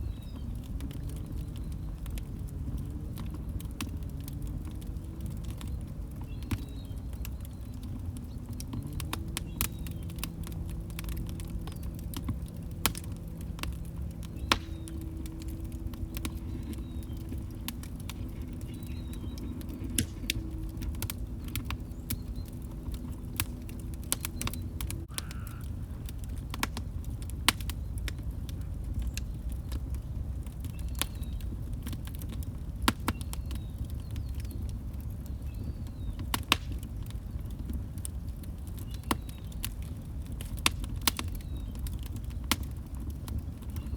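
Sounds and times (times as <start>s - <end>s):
log fire crackling and popping: 0.0s - 43.9s.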